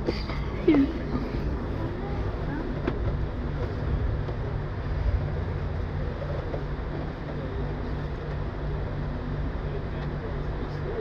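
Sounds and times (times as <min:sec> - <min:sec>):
tram idling rumble: 0:00.0 - 0:11.0.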